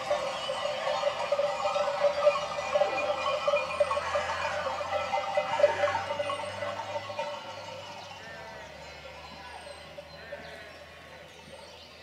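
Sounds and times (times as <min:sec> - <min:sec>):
many bells ringing: 0:00.0 - 0:12.0.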